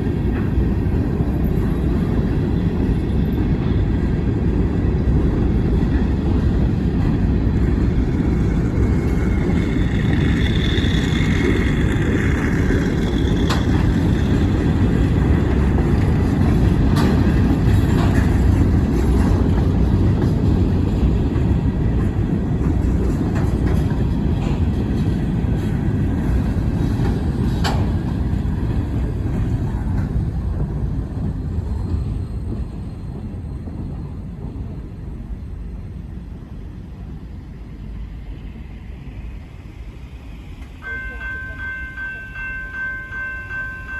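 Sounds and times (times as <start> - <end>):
freight train rolling past: 0.0 - 43.9.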